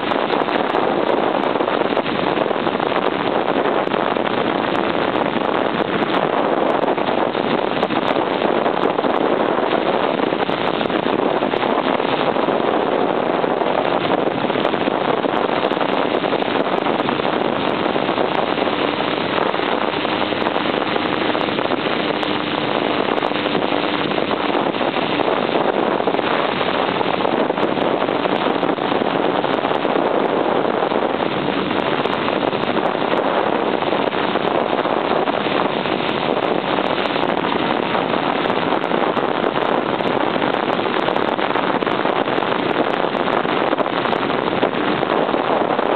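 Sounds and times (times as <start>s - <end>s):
wind rushing on microphone: 0.0s - 45.9s.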